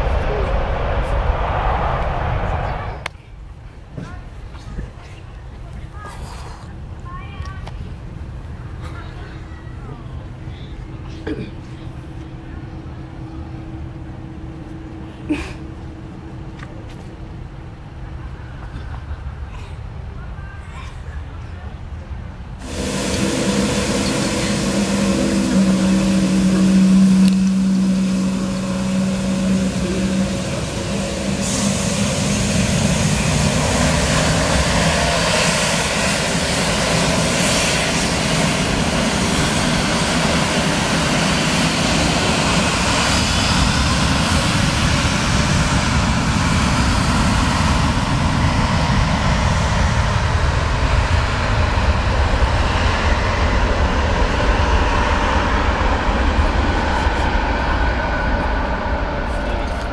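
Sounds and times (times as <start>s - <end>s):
jet engines running: 0.0s - 20.1s, 22.0s - 59.9s.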